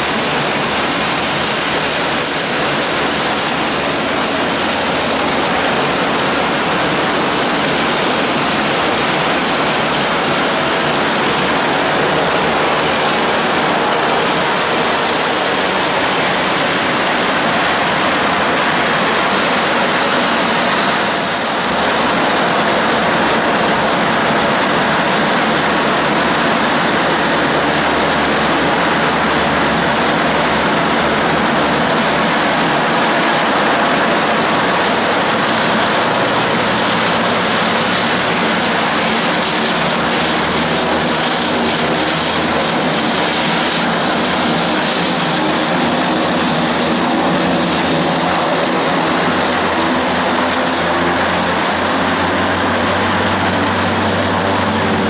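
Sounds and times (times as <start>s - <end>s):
turboprop engines running: 0.0s - 55.0s.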